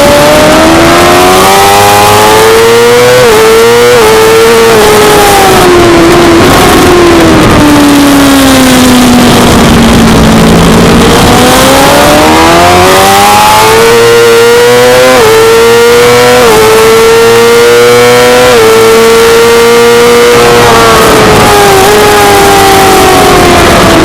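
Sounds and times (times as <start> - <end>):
loud rush of noise: 0.0 - 24.0
motorcycle engine revving: 0.0 - 24.0.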